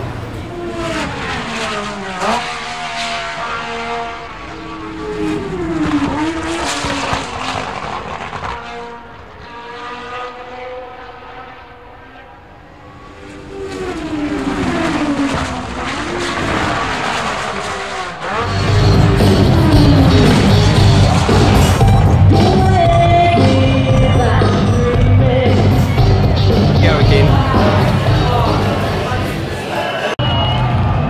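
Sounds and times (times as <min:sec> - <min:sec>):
racing cars passing by: 0:00.0 - 0:31.0.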